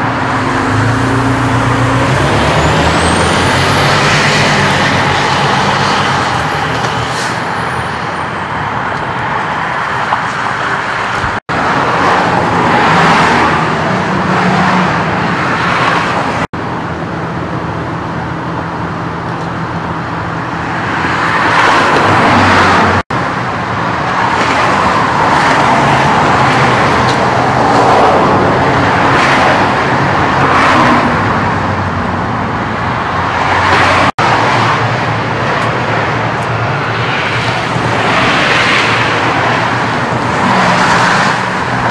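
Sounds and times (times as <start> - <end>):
freeway traffic rushing past: 0.0 - 41.9.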